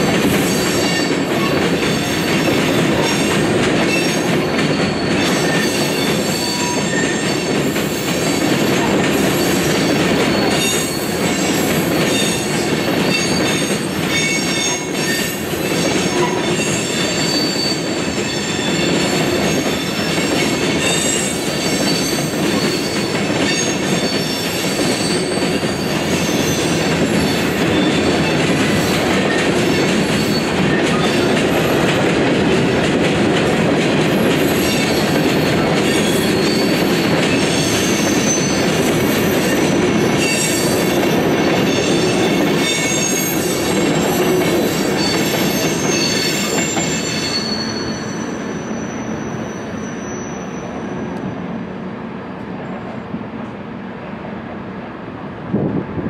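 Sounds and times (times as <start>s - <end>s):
train wheels rumbling on rails: 0.0s - 56.0s
high wheel squeal: 0.4s - 31.8s, 34.1s - 51.5s.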